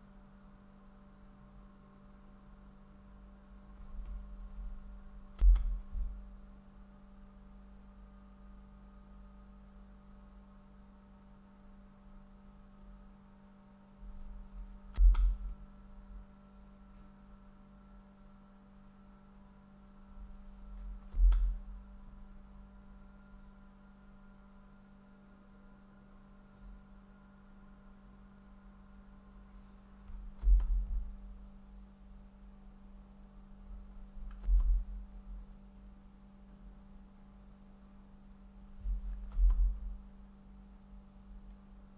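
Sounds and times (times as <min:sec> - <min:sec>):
steady electrical hum: 0:00.0 - 0:41.9.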